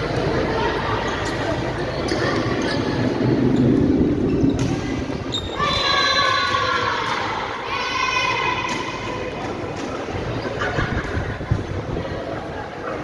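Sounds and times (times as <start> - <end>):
echoing hall noise: 0.0 - 13.0
voices: 0.0 - 13.0.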